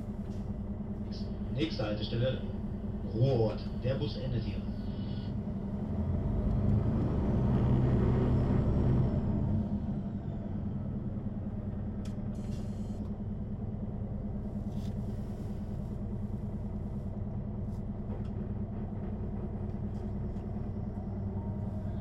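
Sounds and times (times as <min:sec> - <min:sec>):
bus diesel engine idling: 0:00.0 - 0:06.9, 0:07.6 - 0:22.0.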